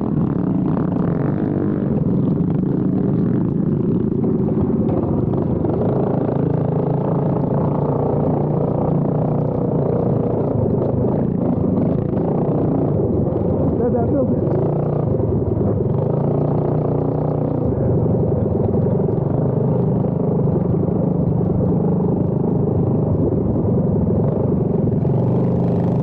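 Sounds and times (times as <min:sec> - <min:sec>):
motorbike engines running: 0:00.0 - 0:26.0.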